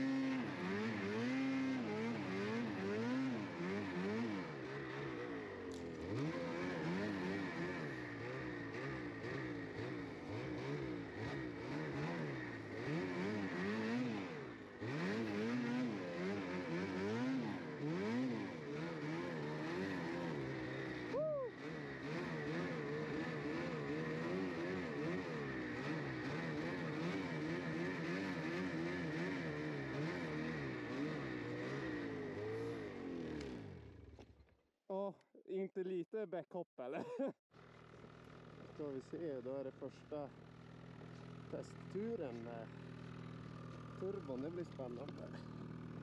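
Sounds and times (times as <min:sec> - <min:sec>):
snowmobile engine revving: 0:00.0 - 0:34.2, 0:38.6 - 0:46.0.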